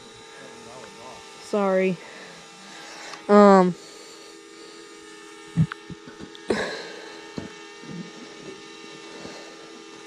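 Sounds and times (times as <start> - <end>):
drone propeller hum: 0.0 - 10.0.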